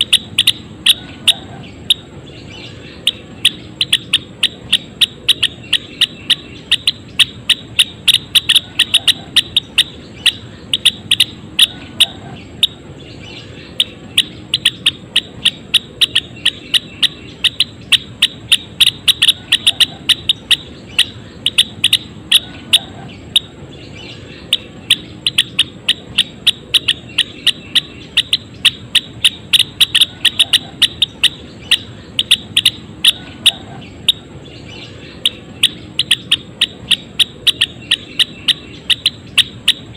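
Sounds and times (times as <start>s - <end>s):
songbird chipping calls: 0.0s - 39.9s.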